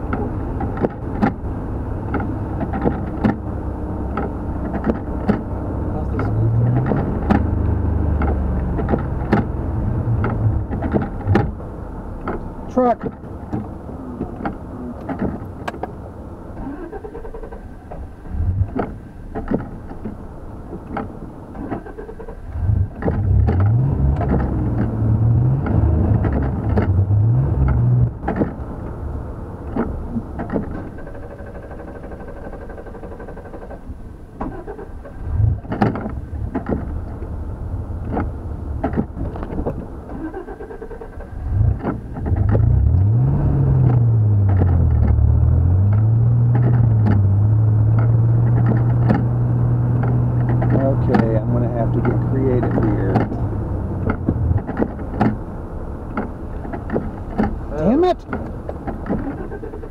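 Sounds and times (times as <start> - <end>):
knocks and rattles over bumps: 0.0 - 29.0, 29.6 - 59.9
pickup truck engine accelerating: 0.0 - 59.9
road rumble: 0.0 - 59.9.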